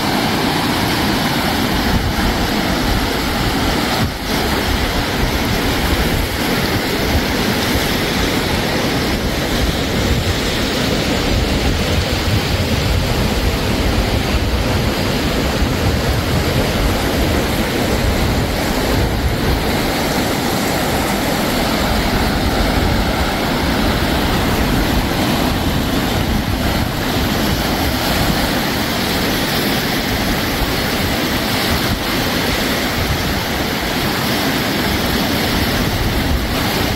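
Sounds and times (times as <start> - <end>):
small waves washing on beach: 0.0 - 36.9
wind on microphone: 0.0 - 36.9.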